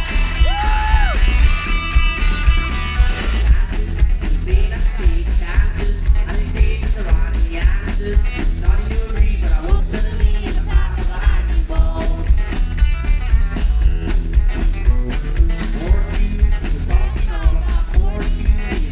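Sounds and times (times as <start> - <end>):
man singing: 0.0 - 12.3, 14.8 - 18.9
steady beat: 0.0 - 18.9
strummed electric guitar: 0.0 - 18.9.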